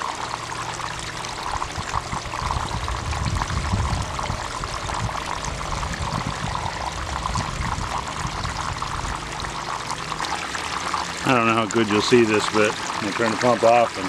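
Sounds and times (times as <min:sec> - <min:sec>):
low uneven rumble: 0:00.0 - 0:14.0
water splashing into a tub: 0:00.0 - 0:14.0.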